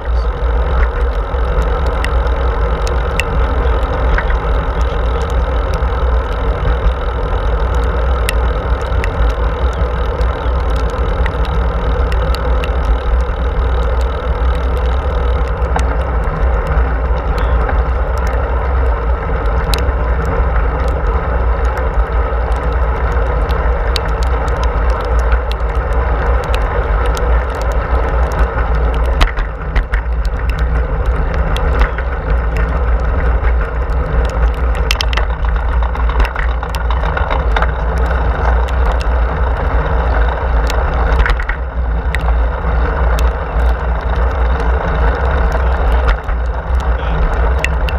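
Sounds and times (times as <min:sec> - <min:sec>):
light clicks and rattles: 0:00.0 - 0:47.9
wind buffeting microphone: 0:00.0 - 0:47.9.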